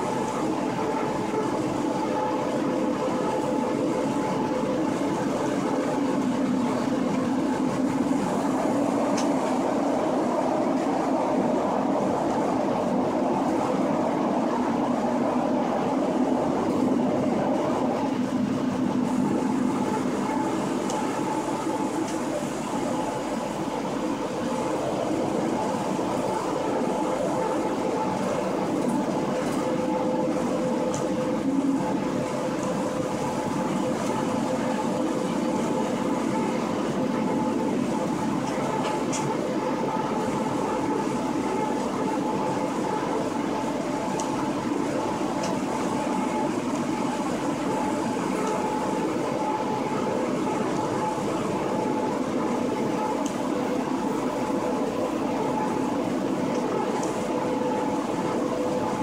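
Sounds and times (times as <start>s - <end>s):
constant hum: 0.0s - 59.0s
wheels rumbling on rail: 0.0s - 59.0s.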